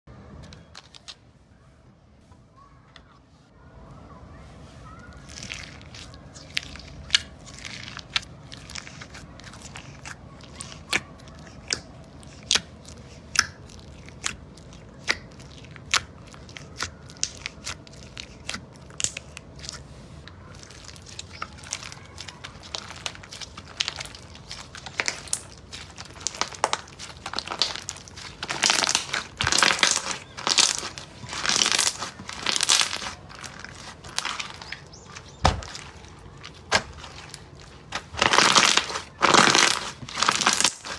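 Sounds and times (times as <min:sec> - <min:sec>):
slime crackling: 0:00.4 - 0:01.2, 0:04.8 - 0:40.9
slime clicking and popping: 0:05.2 - 0:19.8, 0:20.5 - 0:40.9.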